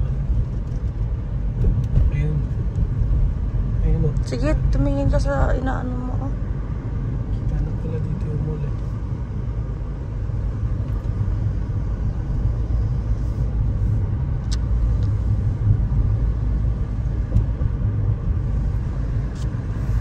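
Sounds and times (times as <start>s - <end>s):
car road rumble inside cabin: 0.0s - 20.0s.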